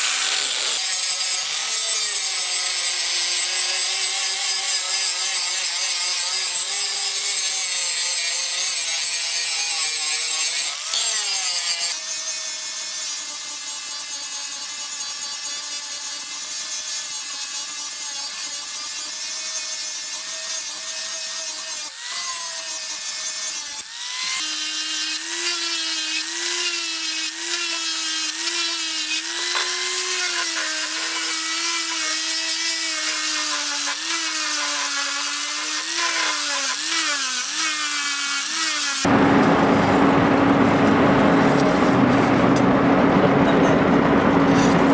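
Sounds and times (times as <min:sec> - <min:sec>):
angle grinder grinding steel: 0:00.0 - 0:43.0.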